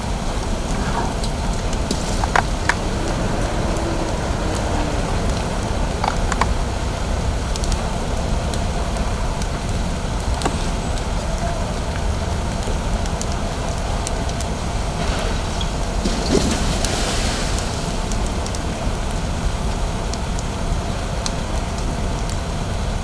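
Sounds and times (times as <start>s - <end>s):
fire crackling and popping: 0.0s - 23.0s
fire engines running: 0.0s - 23.0s.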